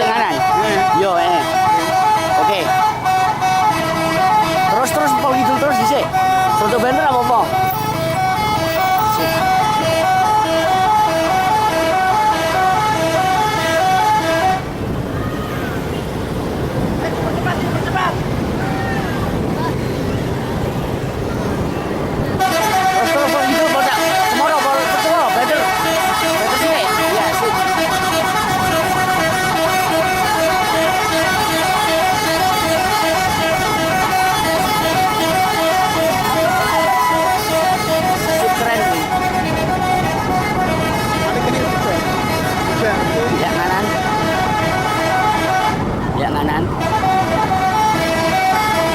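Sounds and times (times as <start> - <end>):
bus musical horn tune: 0.0 - 14.9, 21.6 - 46.0, 46.7 - 48.9.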